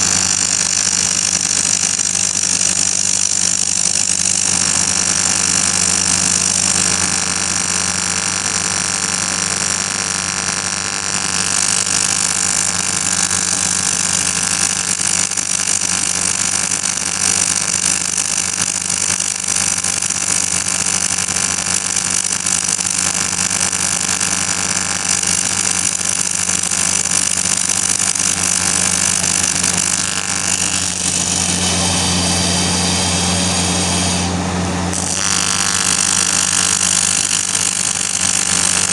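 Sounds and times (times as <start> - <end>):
arc welding hiss: 0.0 - 38.9.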